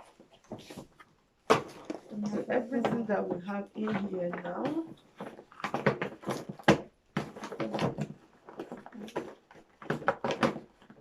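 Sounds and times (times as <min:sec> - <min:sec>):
cardboard packaging being handled: 0:00.0 - 0:11.0.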